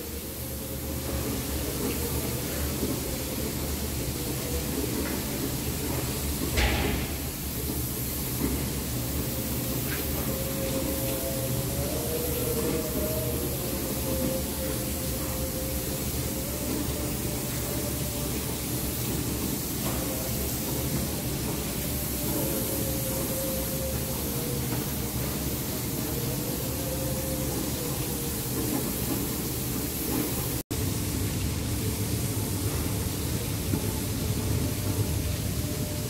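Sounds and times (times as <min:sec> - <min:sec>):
spray painting hiss: 0:00.0 - 0:31.2
machinery humming: 0:00.0 - 0:36.0.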